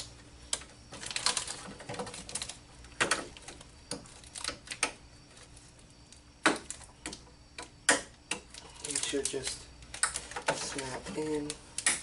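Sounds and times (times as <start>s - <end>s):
sharp plastic clicks and knocks: 0.0s - 5.0s, 6.4s - 12.0s.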